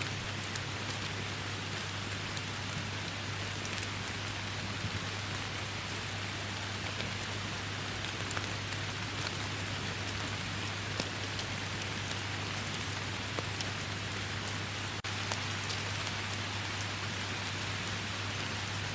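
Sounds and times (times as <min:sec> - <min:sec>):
rain falling in forest: 0:00.0 - 0:18.9.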